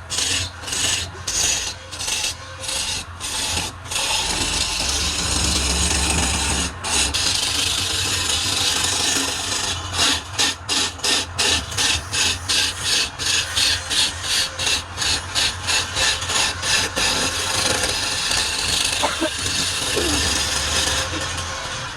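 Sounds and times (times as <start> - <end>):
tool scraping wood: 0.1 - 21.9.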